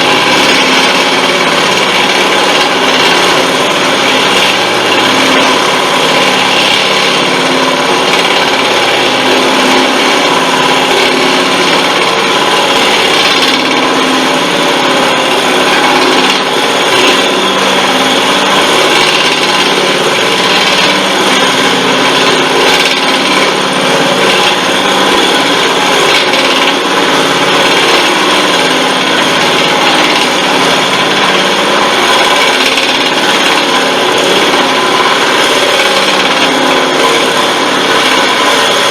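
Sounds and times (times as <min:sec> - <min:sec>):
drill bit rasping into wood: 0:00.0 - 0:38.9
lathe motor hum: 0:00.0 - 0:38.9.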